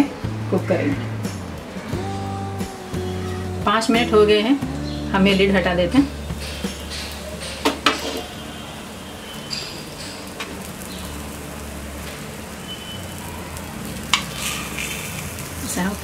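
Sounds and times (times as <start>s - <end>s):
food sizzling in oil: 1.2s - 16.0s.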